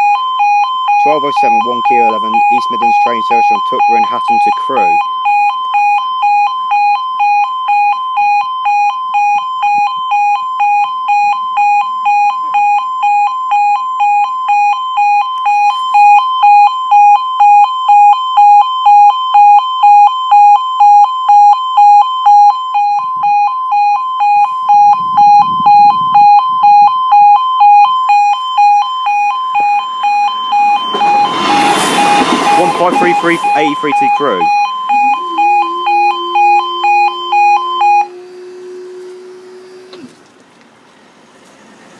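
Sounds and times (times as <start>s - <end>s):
two-tone level crossing alarm: 0.0s - 40.2s.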